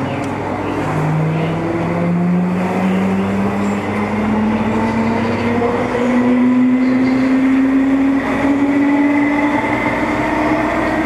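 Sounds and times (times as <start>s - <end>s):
wheels rumbling on track: 0.0s - 11.0s.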